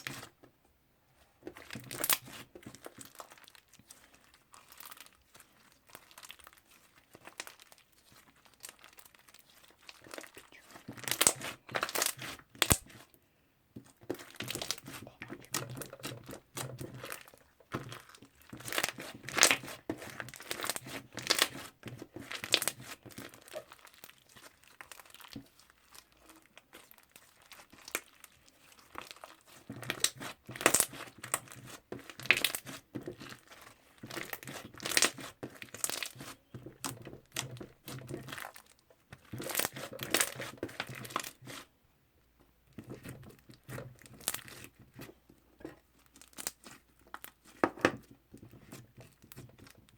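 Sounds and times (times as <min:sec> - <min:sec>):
sticky slime crackling: 0:01.4 - 0:13.2, 0:13.8 - 0:41.7, 0:42.7 - 0:49.9.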